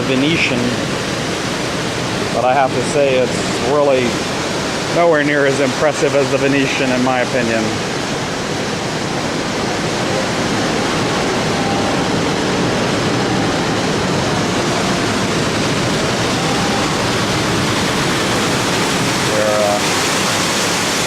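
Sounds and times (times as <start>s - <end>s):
indoor waterfall pouring: 0.0s - 21.0s.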